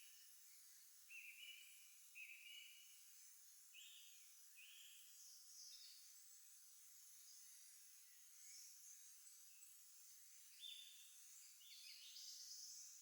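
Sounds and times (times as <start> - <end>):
faint songbirds calling: 0.0 - 13.0.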